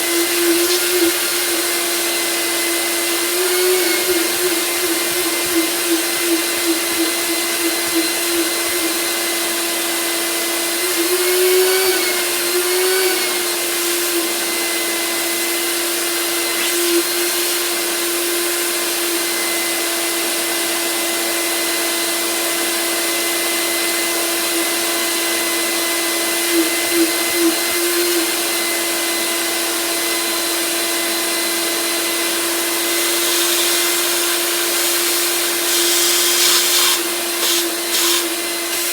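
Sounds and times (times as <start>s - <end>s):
shop vac motor whine: 0.0s - 38.9s.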